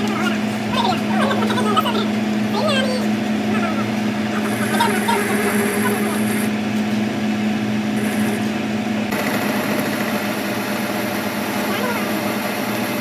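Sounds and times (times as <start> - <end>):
workshop machine humming: 0.0 - 13.0.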